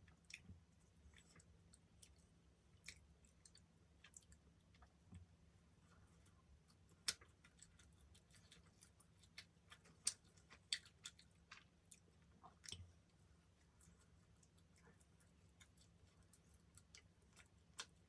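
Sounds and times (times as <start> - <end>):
quiet chewing: 0.0 - 18.0.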